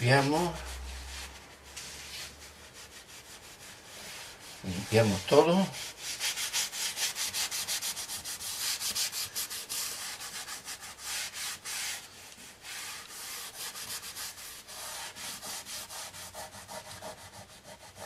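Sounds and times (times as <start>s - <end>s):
cloth rubbing ceramic tile: 0.0s - 18.0s.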